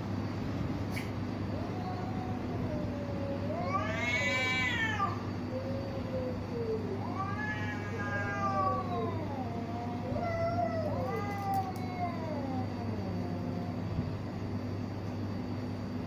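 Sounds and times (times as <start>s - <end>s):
cats yowling: 0.9s - 14.1s.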